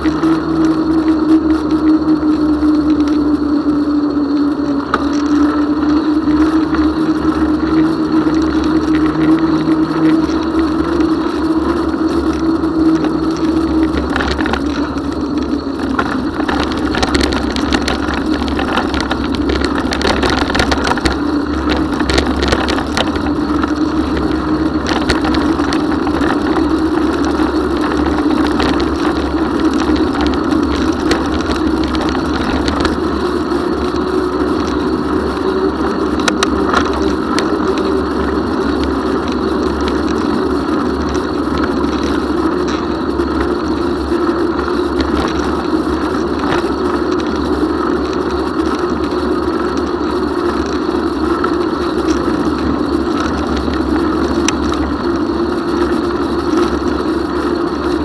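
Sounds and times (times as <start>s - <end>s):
bicycle road noise: 0.0s - 58.0s
faint clicks and rattles: 0.0s - 58.0s
wind noise: 0.0s - 58.0s.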